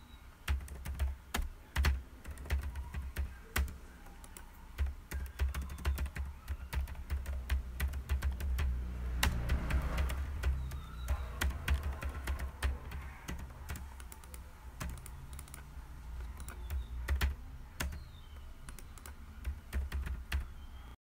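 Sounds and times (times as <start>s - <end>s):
keyboard key clicks: 0.5s - 15.7s, 16.3s - 20.5s.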